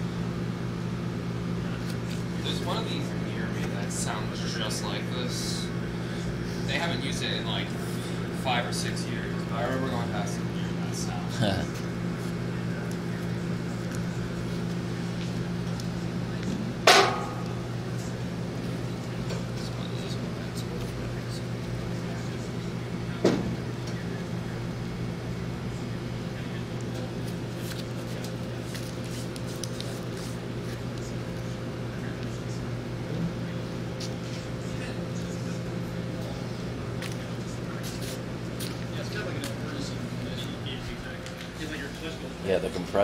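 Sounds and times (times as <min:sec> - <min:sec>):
air conditioner humming: 0:00.0 - 0:43.0.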